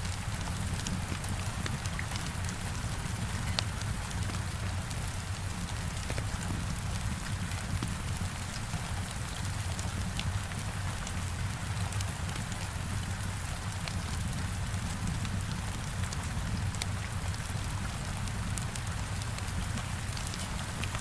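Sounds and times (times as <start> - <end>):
heavy rain against a window: 0.0 - 21.0
wood fire crackling: 0.4 - 21.0.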